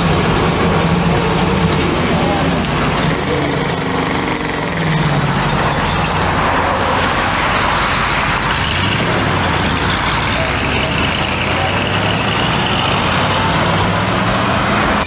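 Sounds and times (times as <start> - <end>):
car engine pulling away: 0.0 - 15.0.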